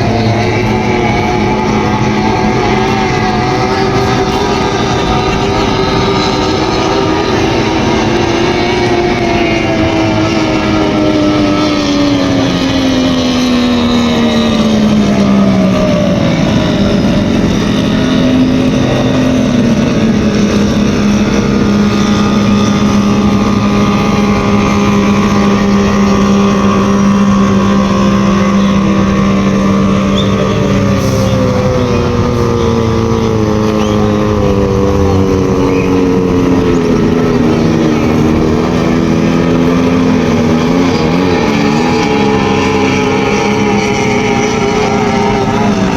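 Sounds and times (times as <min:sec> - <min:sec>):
powerboat engines running: 0:00.0 - 0:45.9.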